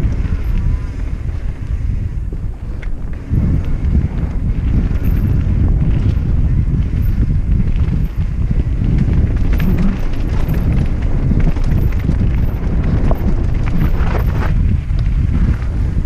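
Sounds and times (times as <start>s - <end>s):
bike rattling over bumpy ground: 0.0s - 16.0s
wind rumble on microphone: 0.0s - 16.0s.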